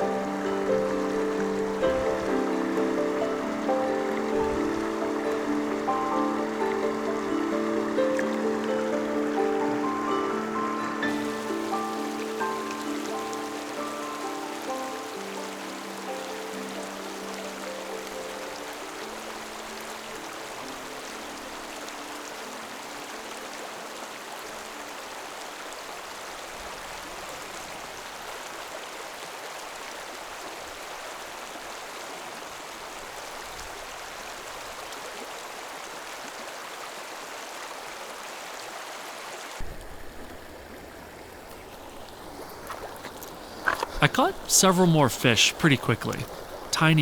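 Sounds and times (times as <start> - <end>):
stream rushing over rocks: 0.0 - 47.0.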